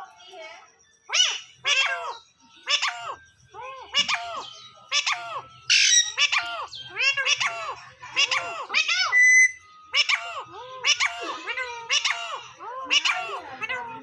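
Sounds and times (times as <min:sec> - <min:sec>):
parrot screech: 0:01.1 - 0:03.2, 0:03.9 - 0:14.0
parrot squawking: 0:01.1 - 0:14.0.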